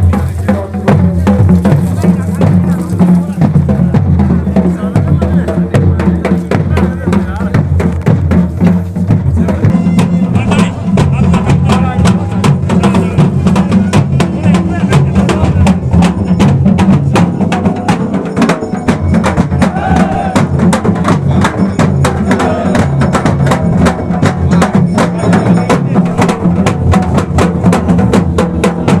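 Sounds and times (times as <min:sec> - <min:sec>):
fast drumming: 0:00.0 - 0:29.0.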